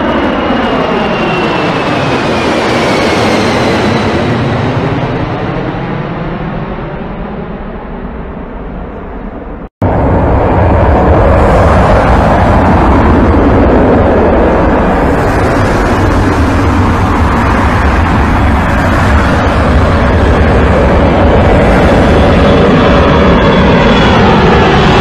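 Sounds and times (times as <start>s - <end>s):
jet aircraft engines roaring: 0.0s - 25.0s.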